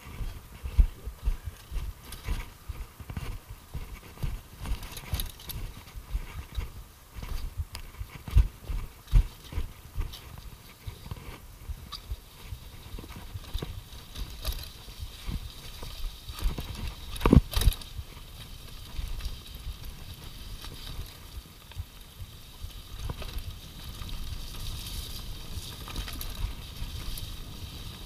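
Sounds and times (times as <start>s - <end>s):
mountain bike rattling: 2.0s - 7.4s, 8.1s - 28.0s.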